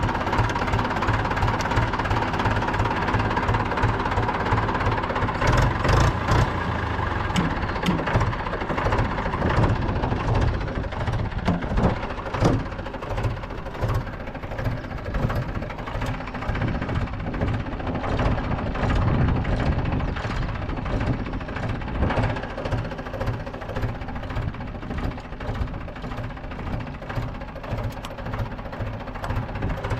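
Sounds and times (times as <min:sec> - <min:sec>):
tractor diesel engine idling: 0:00.0 - 0:29.9.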